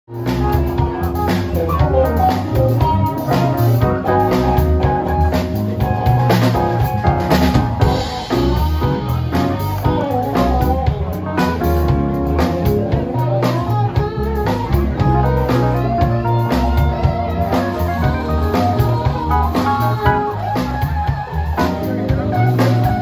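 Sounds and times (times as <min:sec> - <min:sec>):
bass guitar: 0:00.0 - 0:23.0
drum kit: 0:00.1 - 0:23.0
electric guitar: 0:00.1 - 0:23.0.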